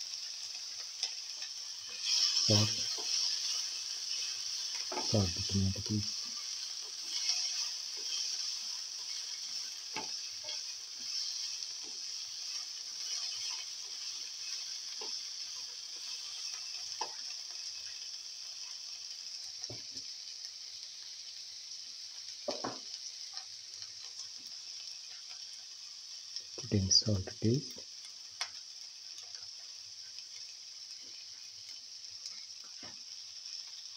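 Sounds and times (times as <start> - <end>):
vegetables sizzling in oil: 0.0 - 33.9.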